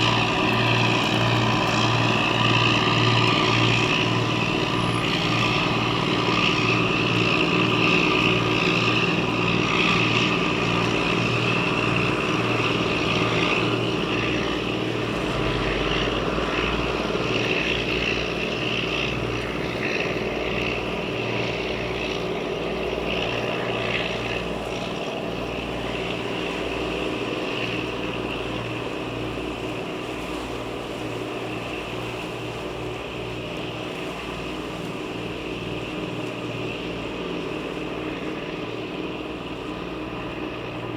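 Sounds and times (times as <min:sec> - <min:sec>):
tug diesel engine pulsing: 0:00.0 - 0:40.9.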